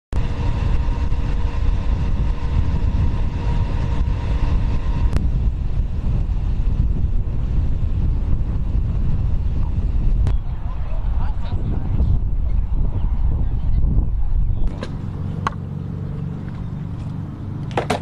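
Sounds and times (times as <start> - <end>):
loud low rumbling: 0.1 - 17.8
steady hum: 0.2 - 17.6.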